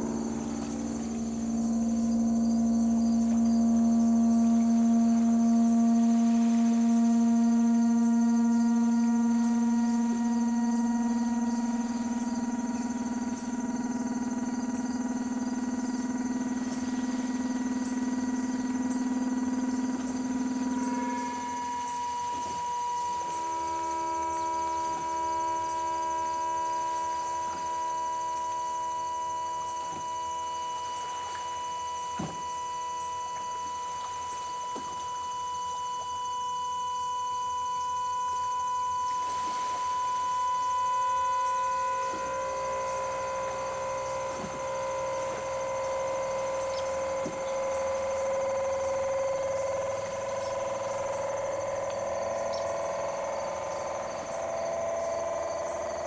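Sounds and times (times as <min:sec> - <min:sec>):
synthesizer drone: 0:00.0 - 0:56.0.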